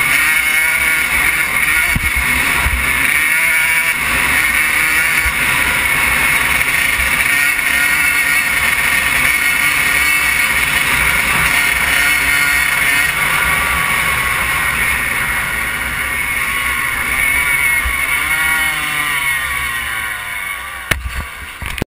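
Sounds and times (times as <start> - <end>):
dirt bike engine revving: 0.0 - 21.8.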